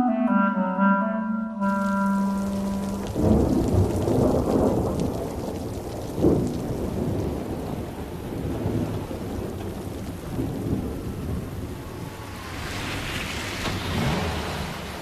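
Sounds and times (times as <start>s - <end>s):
steady rain: 1.7s - 15.0s
rolling thunder: 1.8s - 15.0s.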